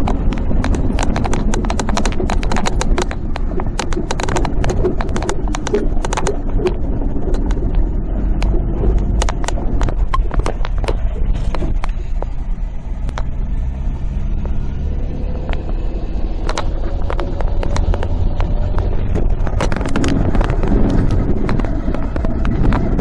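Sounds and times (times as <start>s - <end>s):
clicks and rattles: 0.0s - 12.4s, 15.4s - 23.0s
car engine and road rumble: 0.0s - 23.0s.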